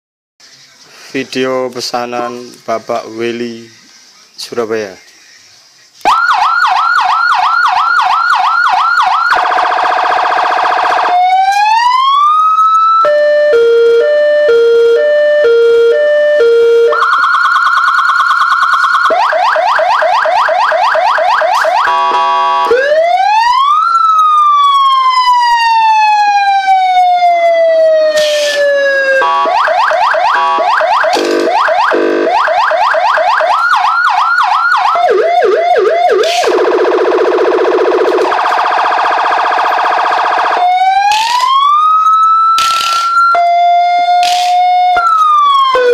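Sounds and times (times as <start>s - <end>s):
electronic siren yelping: 6.1s - 45.9s
siren wail: 6.1s - 45.9s
steady siren tone: 6.1s - 45.9s
two-note hi-lo siren: 6.1s - 45.9s.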